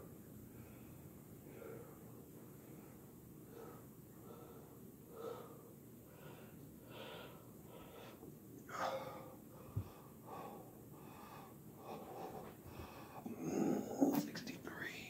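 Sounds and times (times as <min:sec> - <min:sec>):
man breathing hard: 0:00.5 - 0:13.8.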